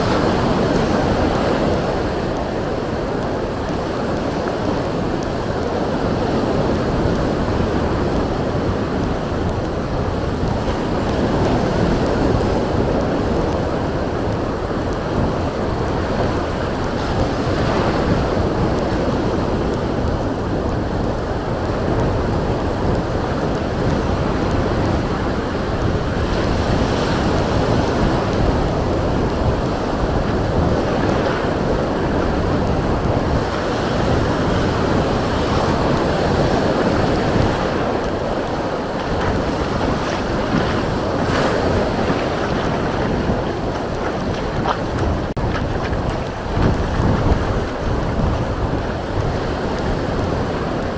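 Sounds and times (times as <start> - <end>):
strong wind on microphone: 0.0 - 50.9
waves breaking on shore: 0.0 - 50.9.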